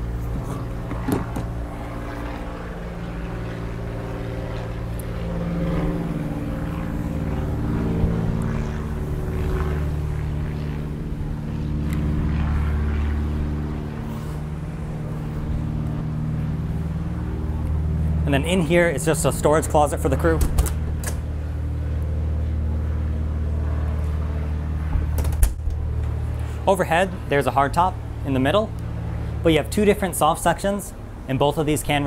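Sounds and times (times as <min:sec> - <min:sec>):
low motor drone: 0:00.0 - 0:32.0.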